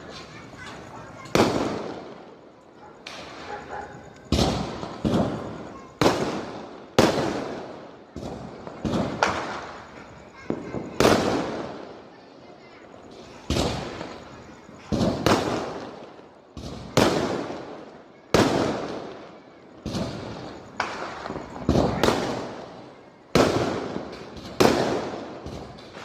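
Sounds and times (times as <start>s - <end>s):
firecrackers banging: 0.0s - 26.0s.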